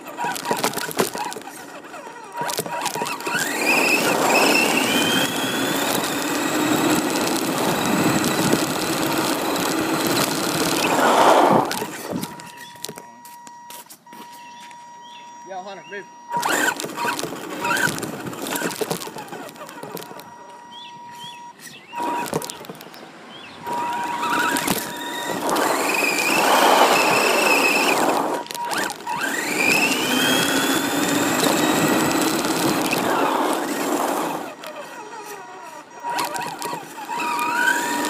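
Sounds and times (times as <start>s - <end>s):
rc car motor whine: 0.0s - 38.0s
wheels rumbling on ground: 0.0s - 38.0s.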